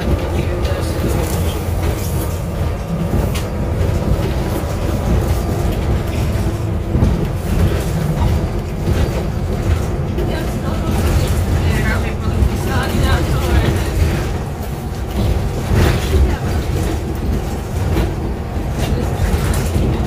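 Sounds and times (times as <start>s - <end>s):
bus engine: 0.0s - 20.0s
road noise: 0.0s - 20.0s.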